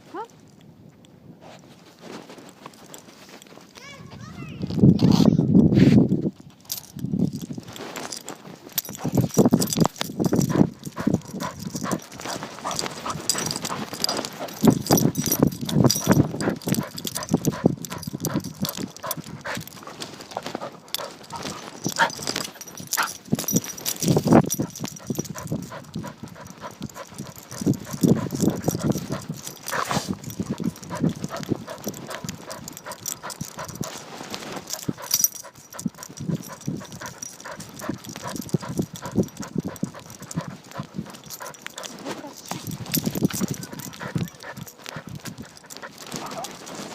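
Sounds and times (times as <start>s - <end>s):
dog sounds: 6.7s - 46.9s.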